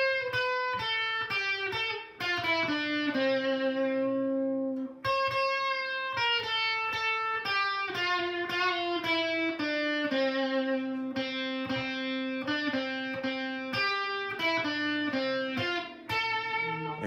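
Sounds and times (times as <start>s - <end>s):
electric guitar melody: 0.0s - 17.0s.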